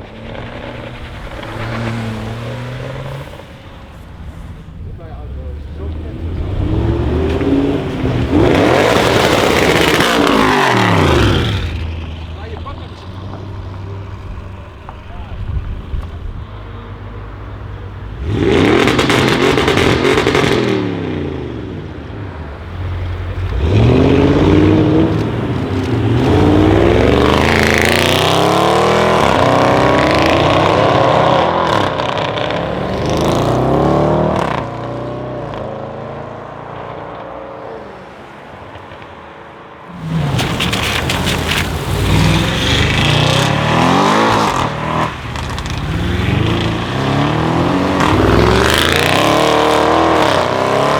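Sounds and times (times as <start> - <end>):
exhaust crackles: 0.0 - 35.6, 39.9 - 50.9
car engine accelerating hard: 0.0 - 37.5, 39.9 - 50.9.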